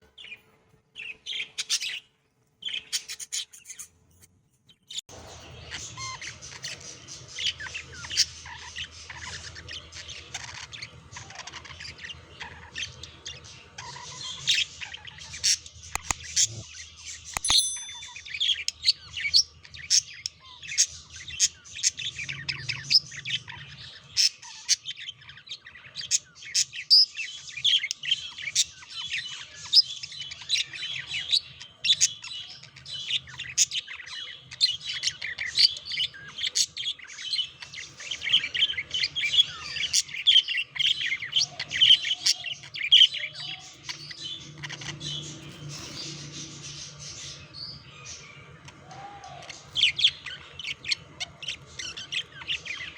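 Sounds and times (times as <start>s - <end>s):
budgerigars chattering: 2.7s - 3.9s, 5.2s - 18.3s, 18.9s - 52.9s.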